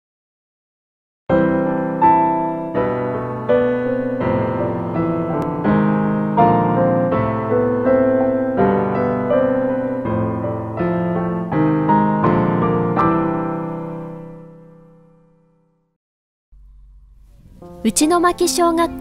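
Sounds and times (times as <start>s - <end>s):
slow piano music: 1.3s - 16.0s, 16.6s - 19.0s.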